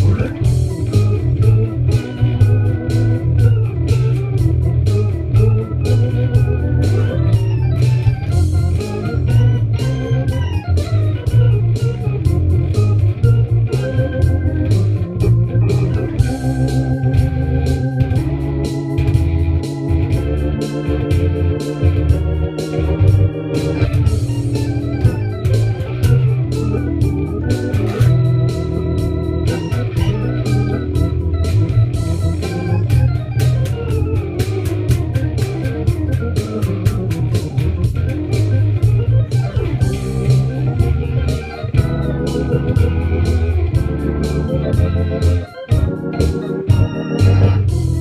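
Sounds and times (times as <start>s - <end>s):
guitar: 0.0s - 48.0s
organ chords and melody: 0.0s - 48.0s
steady ticking beat: 0.0s - 48.0s
walking bass: 0.0s - 48.0s.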